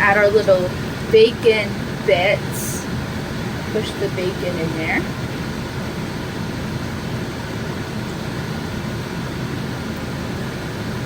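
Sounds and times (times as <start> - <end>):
fan whooshing: 0.0 - 11.0.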